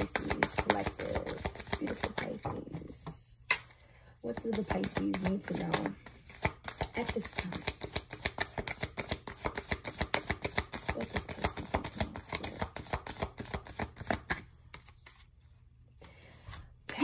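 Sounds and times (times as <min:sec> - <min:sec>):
cards shuffled by hand: 0:00.0 - 0:03.0, 0:04.3 - 0:15.3.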